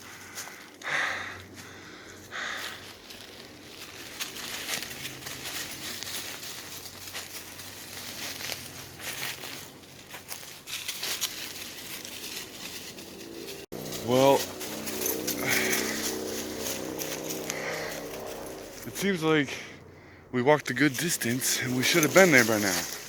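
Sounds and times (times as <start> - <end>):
footsteps crunching through undergrowth: 0.0 - 19.6, 20.7 - 23.0.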